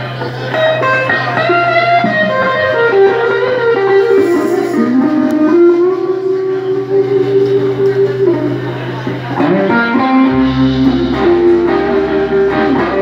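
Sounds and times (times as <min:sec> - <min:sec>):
electric guitar bending notes: 0:00.0 - 0:13.0
live blues band: 0:00.0 - 0:13.0.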